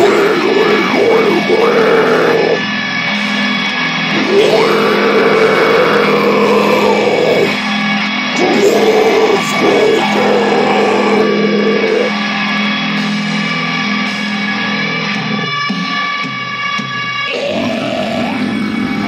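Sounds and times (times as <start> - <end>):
electric guitar sustained chords: 0.0 - 19.0
heavy metal song: 0.0 - 19.0.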